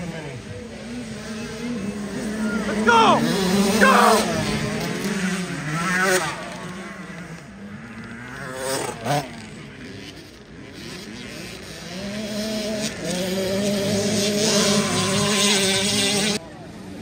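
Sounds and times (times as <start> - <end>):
dirt bike engines: 0.0 - 17.0.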